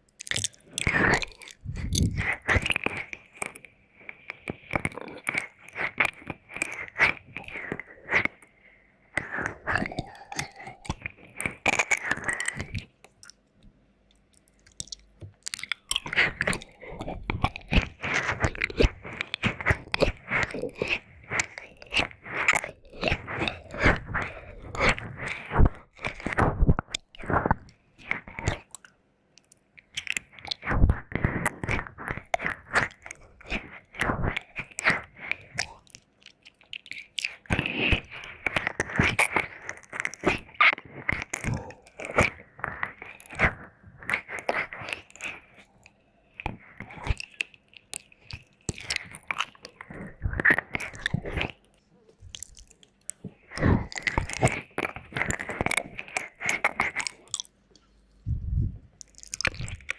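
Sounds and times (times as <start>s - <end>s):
wet mouth clicks and licking: 0.0s - 8.5s, 9.2s - 58.2s, 58.9s - 59.9s.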